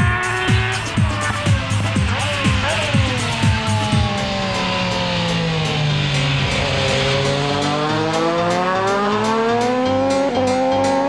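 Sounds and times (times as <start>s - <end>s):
race motorcycle engine passing: 0.0s - 11.0s.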